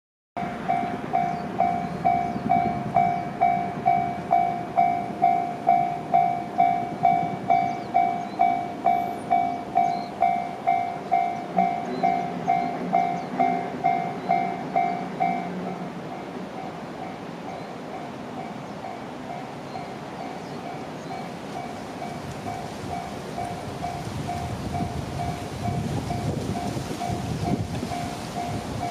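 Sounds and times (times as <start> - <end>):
level crossing warning bell: 0.4 - 28.9.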